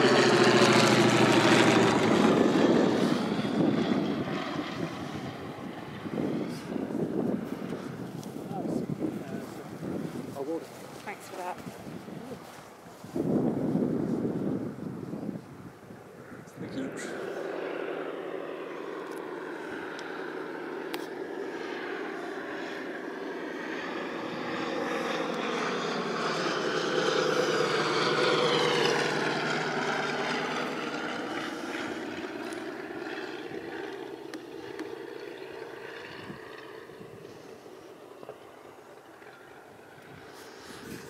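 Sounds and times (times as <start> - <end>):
propeller plane engine flying overhead: 0.0 - 41.0.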